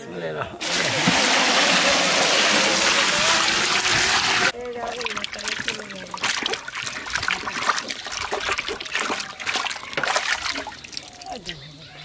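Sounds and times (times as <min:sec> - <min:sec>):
water splashing and trickling: 0:00.6 - 0:11.6.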